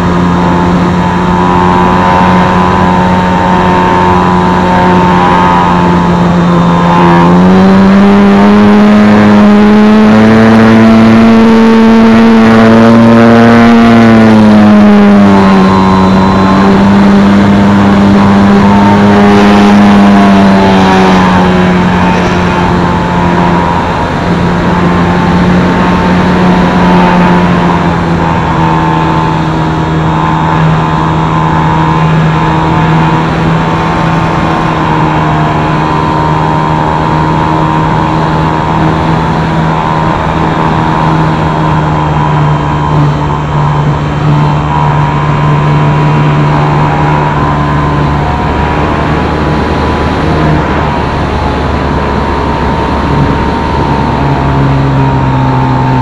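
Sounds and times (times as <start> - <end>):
electric motor and propeller: 0.0 - 56.0.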